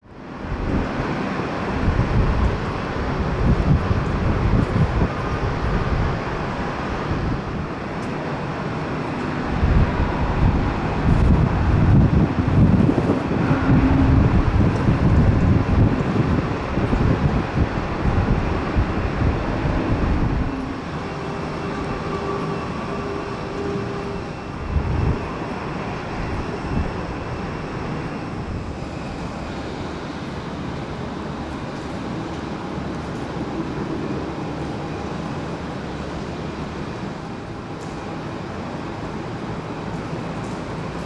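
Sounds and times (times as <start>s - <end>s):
wind buffeting microphone: 0.0s - 40.8s
jet engines running: 0.0s - 41.0s.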